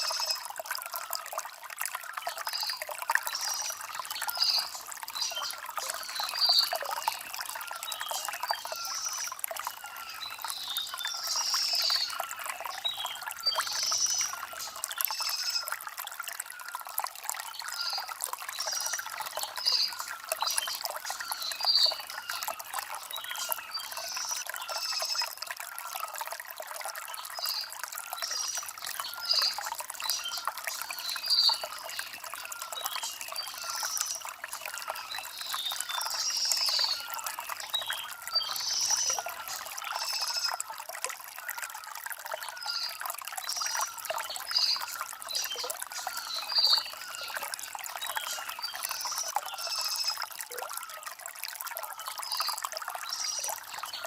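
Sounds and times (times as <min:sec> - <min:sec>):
stream babbling over stones: 0:00.0 - 0:54.0
small birds chirping: 0:02.3 - 0:15.7, 0:17.4 - 0:25.4, 0:27.1 - 0:40.7, 0:42.2 - 0:51.0, 0:52.0 - 0:54.0.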